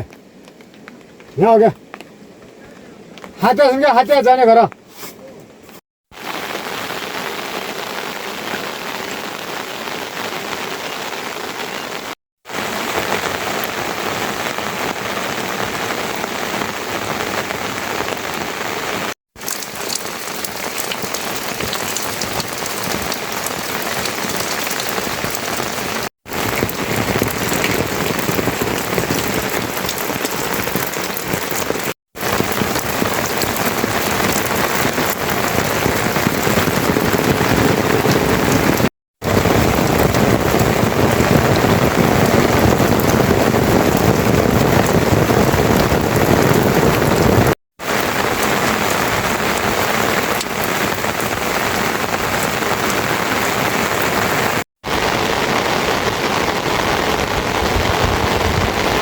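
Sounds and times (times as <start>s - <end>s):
rain hissing on surfaces: 6.1s - 59.0s.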